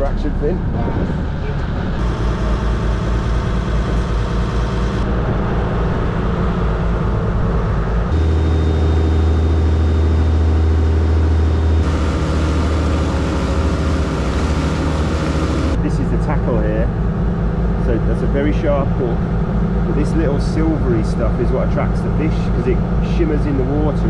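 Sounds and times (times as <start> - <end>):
motor boat engine humming: 0.0 - 24.0.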